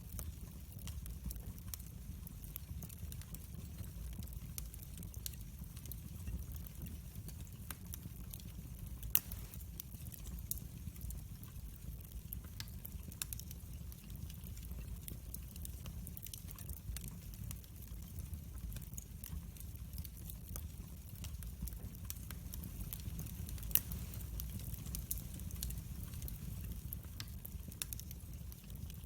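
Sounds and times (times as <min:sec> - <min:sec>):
fire crackling and popping: 0:00.0 - 0:29.0
fire flames rumbling: 0:00.0 - 0:29.0.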